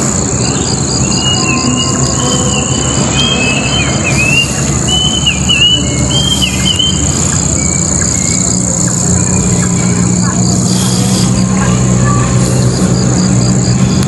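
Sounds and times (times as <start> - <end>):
birds chirping: 0.0 - 14.0
high-pitched drone: 0.0 - 14.0.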